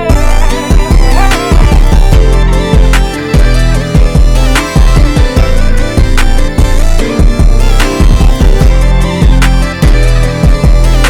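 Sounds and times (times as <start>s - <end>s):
heavy bass drum beat: 0.0s - 11.0s
sustained melodic tones: 0.0s - 11.0s.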